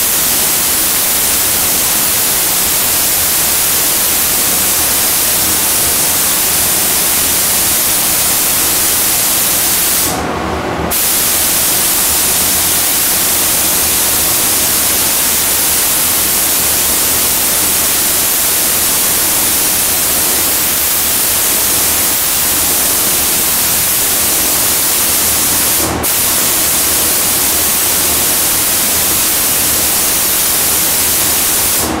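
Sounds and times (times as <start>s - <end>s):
paint spray gun hissing: 0.0s - 10.2s, 10.9s - 32.0s.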